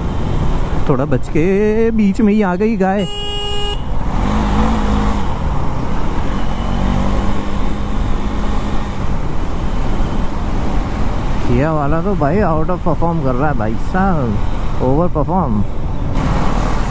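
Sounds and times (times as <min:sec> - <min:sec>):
surrounding traffic: 0:00.0 - 0:16.9
wind and road rush: 0:00.0 - 0:16.9.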